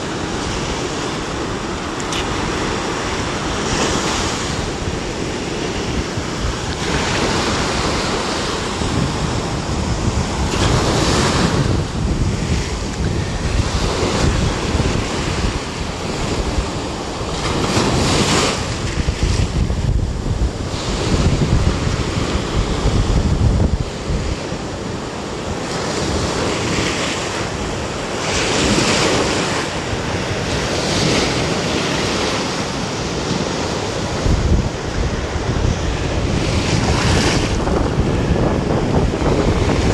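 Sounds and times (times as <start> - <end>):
surf breaking on a beach: 0.0 - 39.9
wind buffeting microphone: 0.0 - 39.9.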